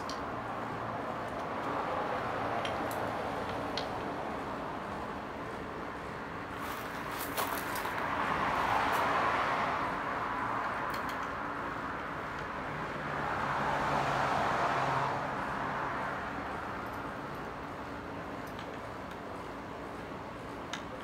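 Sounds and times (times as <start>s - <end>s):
cars passing: 0.0s - 20.7s.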